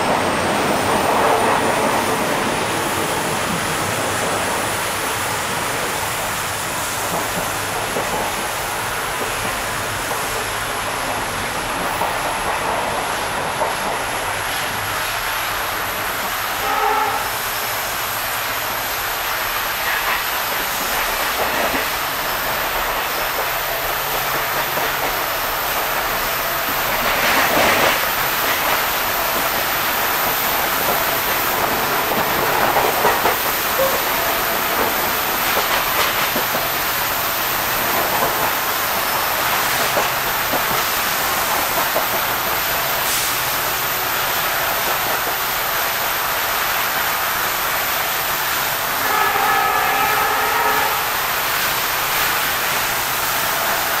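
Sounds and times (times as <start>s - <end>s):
train wheels rushing on track: 0.0s - 54.0s.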